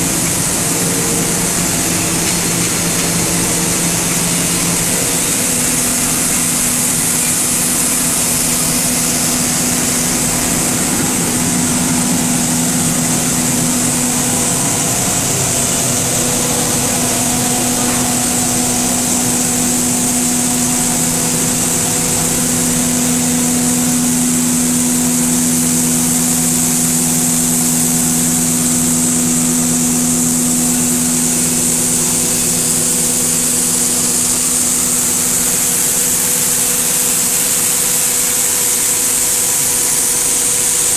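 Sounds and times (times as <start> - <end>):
high hiss: 0.0 - 40.9
machinery humming: 0.0 - 40.9.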